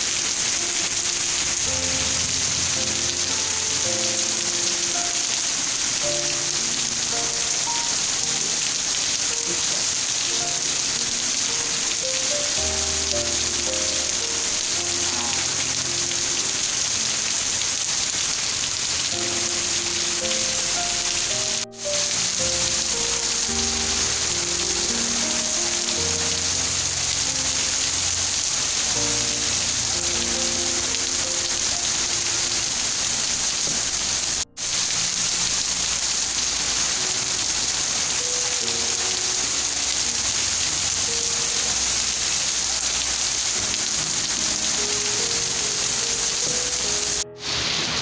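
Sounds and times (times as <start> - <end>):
soft background music: 0.0 - 48.0
steady rain hiss: 0.0 - 48.0.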